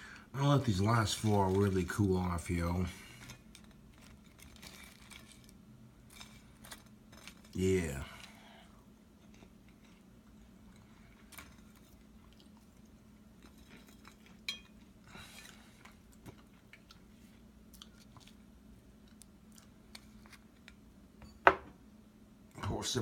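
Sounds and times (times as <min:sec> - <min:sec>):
low steady hum: 0:00.0 - 0:23.0
faint chewing: 0:01.1 - 0:20.9.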